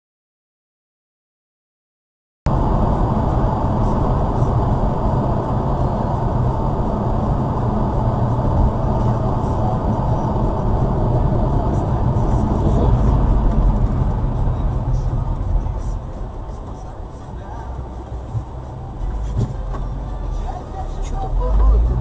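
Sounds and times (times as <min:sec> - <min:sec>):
vehicle engine and road rumble: 0:02.5 - 0:22.0.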